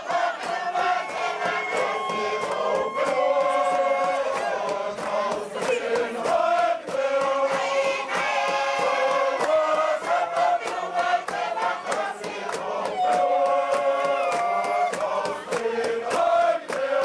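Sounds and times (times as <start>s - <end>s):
group singing chant-like lines: 0.0s - 17.0s
wooden box drum beaten: 0.0s - 17.0s.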